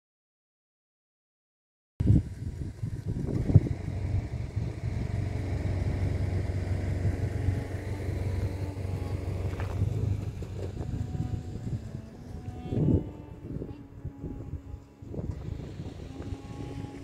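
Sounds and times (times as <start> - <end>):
engine humming steadily: 2.0 - 17.0.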